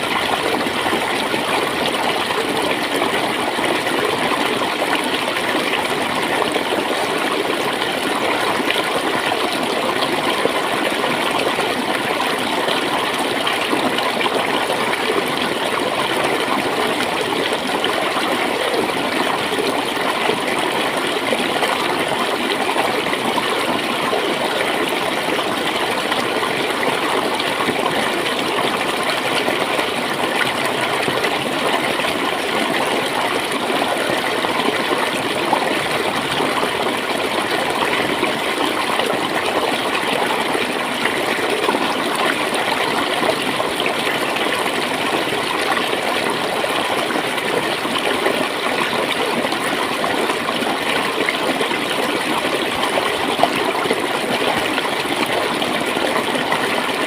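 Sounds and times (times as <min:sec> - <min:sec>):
stream flowing and gurgling: 0:00.0 - 0:57.0.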